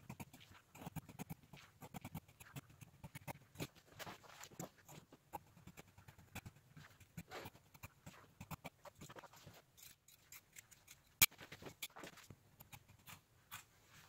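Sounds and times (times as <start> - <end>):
small clicks and scratches: 0.0 - 14.0.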